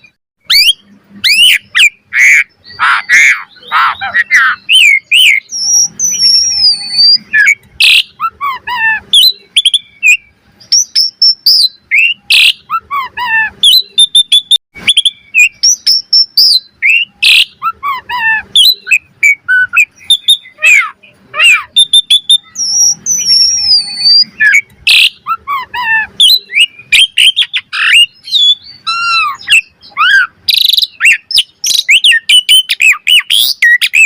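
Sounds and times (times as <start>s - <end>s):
starling singing: 0.0s - 34.0s.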